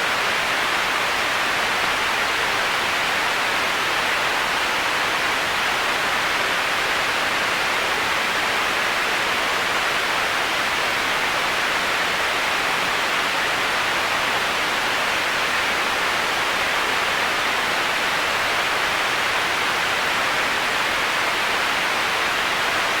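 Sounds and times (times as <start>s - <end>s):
heavy rain white noise hiss: 0.0s - 23.0s.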